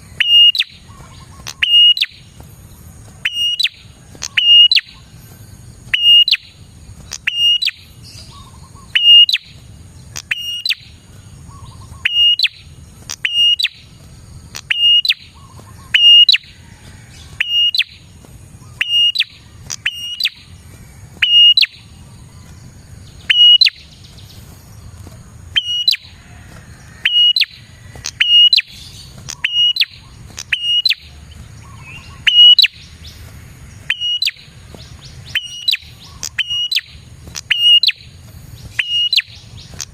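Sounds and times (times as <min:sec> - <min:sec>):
bird chirping calls: 0:00.0 - 0:39.9.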